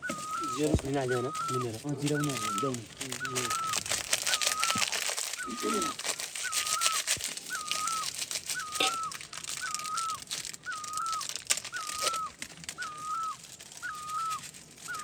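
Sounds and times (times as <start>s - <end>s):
bird whistled call: 0.0s - 15.0s
crackling clicks: 0.0s - 15.0s.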